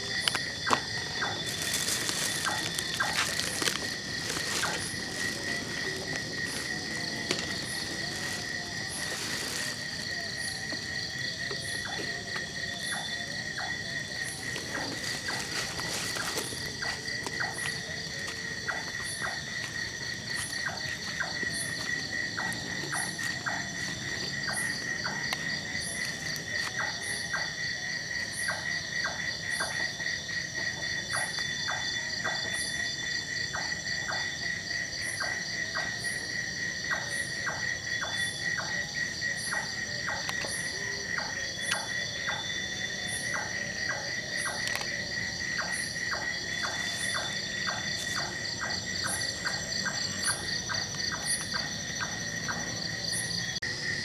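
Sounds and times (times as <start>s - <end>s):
crickets trilling: 0.0s - 54.0s
irregular clicking insect calls: 0.0s - 54.0s.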